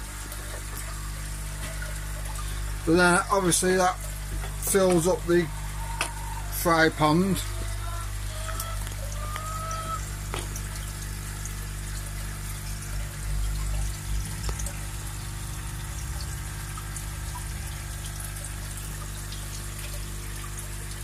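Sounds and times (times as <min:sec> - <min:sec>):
steady low hum: 0:00.0 - 0:20.9
water pouring from a pipe: 0:00.0 - 0:21.0.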